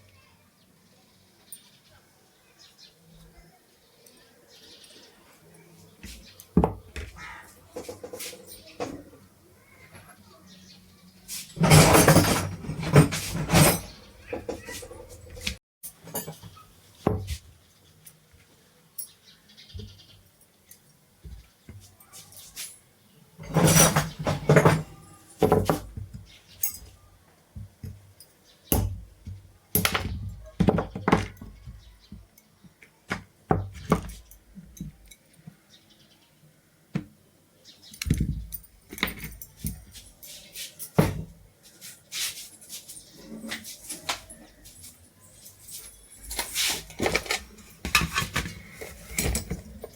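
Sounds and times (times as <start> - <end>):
hand tools and metal parts clattering: 4.0 - 9.2, 11.2 - 35.6, 37.8 - 49.9.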